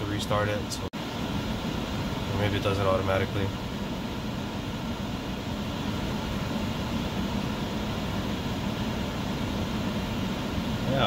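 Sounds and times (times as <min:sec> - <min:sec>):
car interior hum: 0:00.0 - 0:11.0
ventilation fan blowing: 0:00.0 - 0:11.0.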